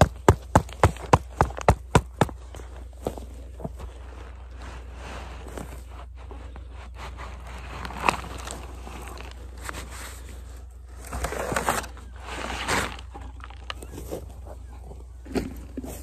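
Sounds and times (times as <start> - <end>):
plastic pot scraping and rustling: 2.4 - 16.0.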